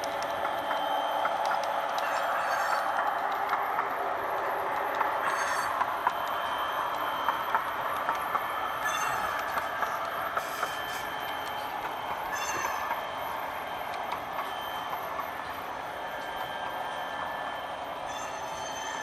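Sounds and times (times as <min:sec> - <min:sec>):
model train rolling on metal track: 0:00.0 - 0:19.0
wheels clicking over rail joints: 0:00.0 - 0:19.0.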